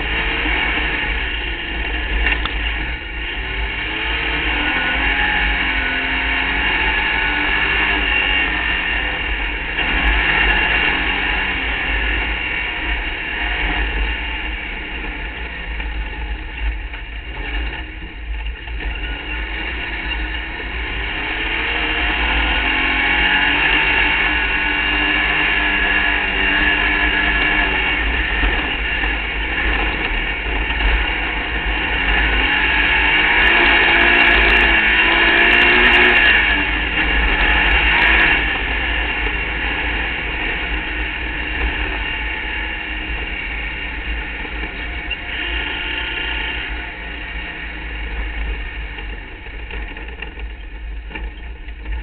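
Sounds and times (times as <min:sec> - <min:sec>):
race car engine running hard: 0:00.0 - 0:52.0.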